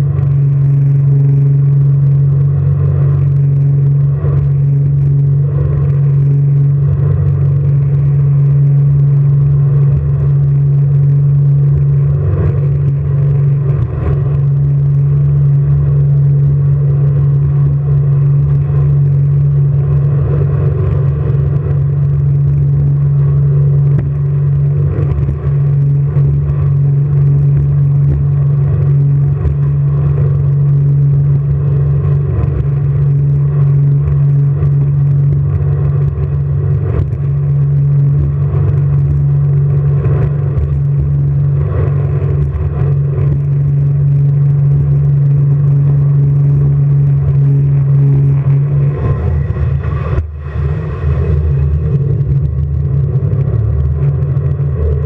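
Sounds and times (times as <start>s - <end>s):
jet boat engine running: 0.0s - 55.0s
wind noise: 0.0s - 55.0s.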